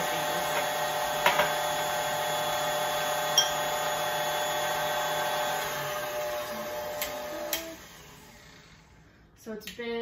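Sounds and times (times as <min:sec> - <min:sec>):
stand mixer motor whining: 0:00.0 - 0:09.3.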